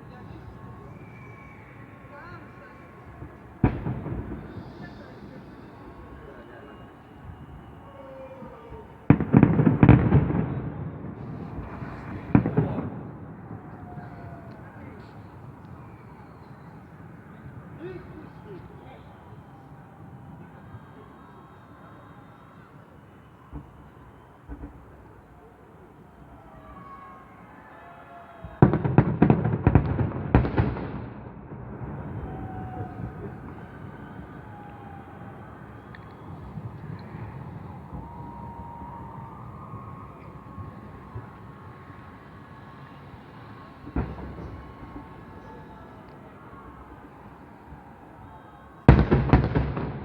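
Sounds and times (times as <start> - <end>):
fireworks booming: 0.0 - 21.3, 23.4 - 25.4, 28.4 - 47.9, 48.8 - 50.0.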